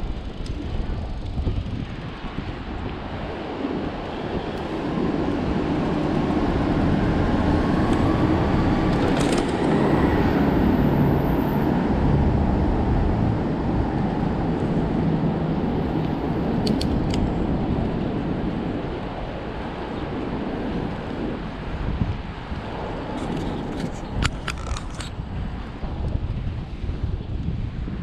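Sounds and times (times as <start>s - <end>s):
low rumble of traffic: 0.0s - 28.0s
wind buffeting microphone: 0.0s - 28.0s.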